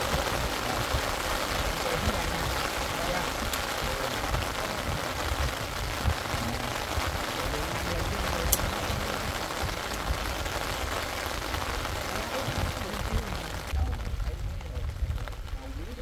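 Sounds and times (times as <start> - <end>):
rain hiss: 0.0 - 16.0
wind rumbling on microphone: 0.0 - 16.0.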